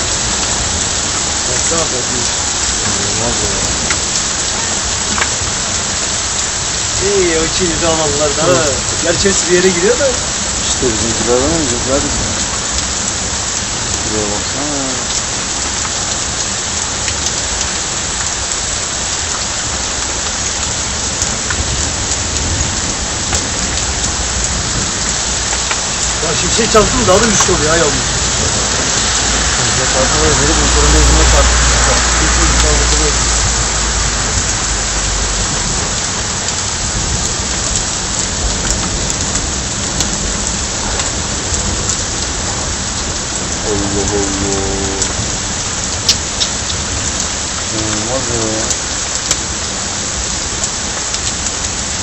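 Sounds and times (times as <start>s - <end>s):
heavy rain pouring: 0.0s - 52.0s
raindrops ticking: 0.0s - 52.0s.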